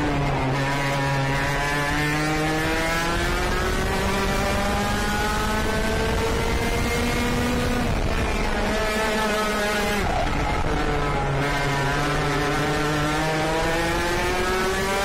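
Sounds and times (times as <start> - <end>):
kart engine accelerating: 0.0 - 15.0.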